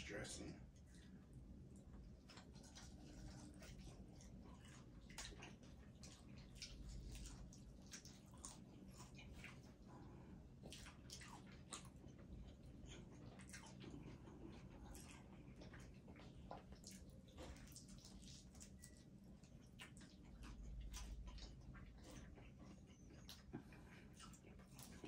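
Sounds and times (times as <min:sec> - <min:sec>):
people chewing food: 0:00.1 - 0:25.0.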